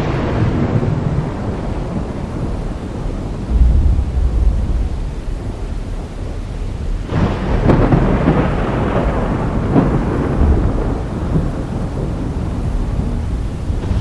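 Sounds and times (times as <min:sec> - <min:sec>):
thunder cracking and rumbling: 0:00.0 - 0:14.0
rain hissing: 0:00.6 - 0:14.0.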